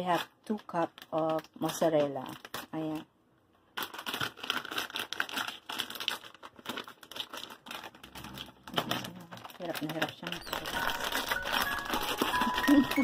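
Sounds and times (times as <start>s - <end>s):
plastic bag crinkling and tearing: 0.0s - 13.0s.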